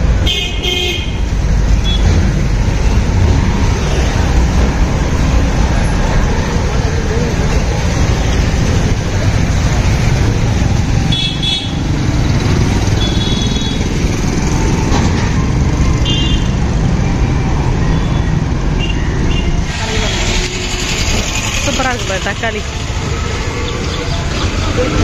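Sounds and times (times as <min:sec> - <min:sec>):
road traffic: 0:00.0 - 0:25.0.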